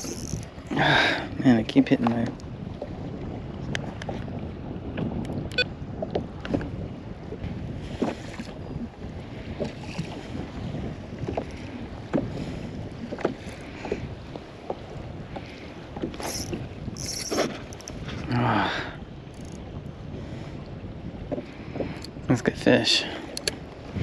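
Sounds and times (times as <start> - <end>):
wind on microphone: 0.0 - 24.0
water sloshing against kayak hull: 2.0 - 22.3.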